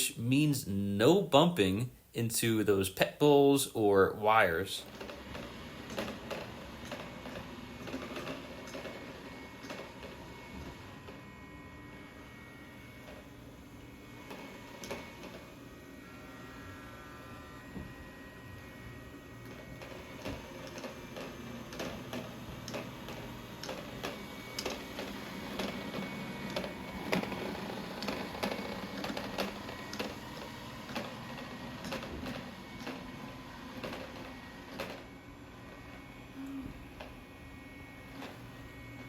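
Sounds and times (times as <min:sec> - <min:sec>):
robot vacuum motor hum: 0:03.8 - 0:39.0.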